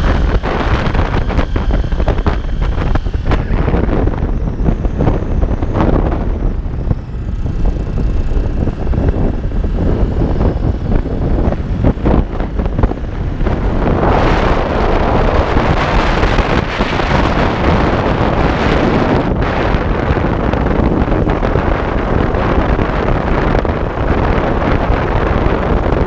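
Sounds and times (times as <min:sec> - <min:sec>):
motorcycle engine rumble: 0:00.0 - 0:26.0
wind buffeting microphone: 0:00.0 - 0:26.0.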